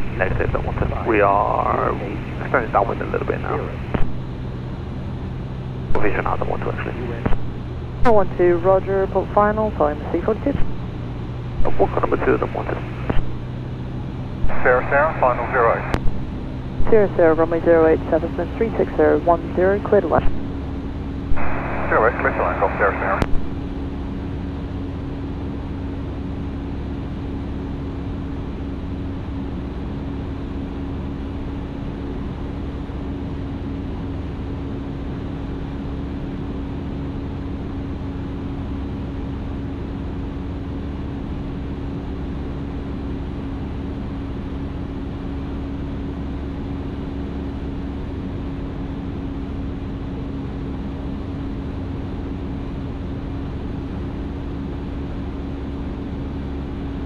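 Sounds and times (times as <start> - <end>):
aircraft engine droning: 0.0 - 57.0.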